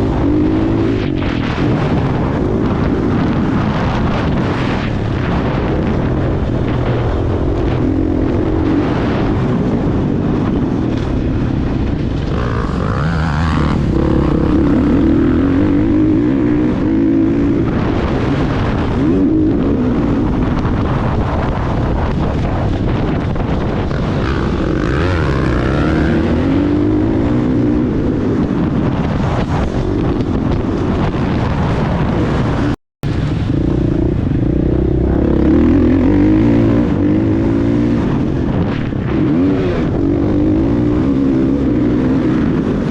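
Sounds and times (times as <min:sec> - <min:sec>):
motocross bike engine revving: 0:00.0 - 0:04.8, 0:06.6 - 0:22.4, 0:23.0 - 0:29.0, 0:33.4 - 0:42.9.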